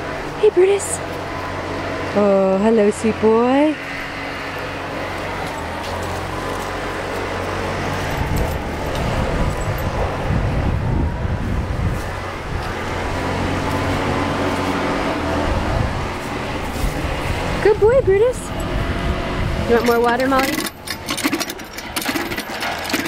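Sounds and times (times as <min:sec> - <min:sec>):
heavy rumble: 0:00.0 - 0:23.0
low machine hum: 0:00.0 - 0:23.0.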